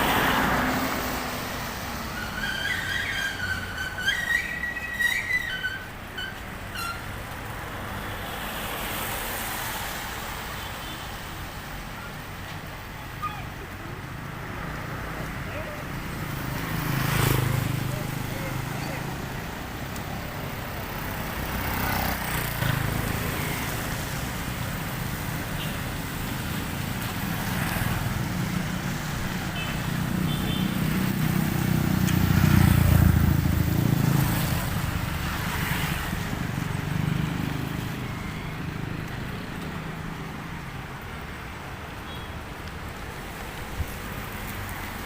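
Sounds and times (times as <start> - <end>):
vehicle engines rumbling: 0.0 - 45.0.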